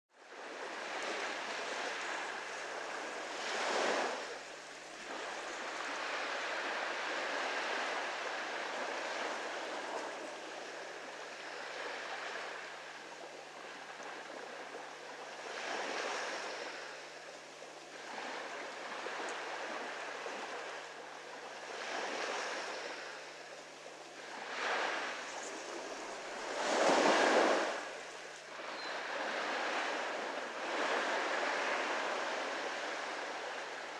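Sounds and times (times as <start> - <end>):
waves lapping on beach: 0.2 - 33.9.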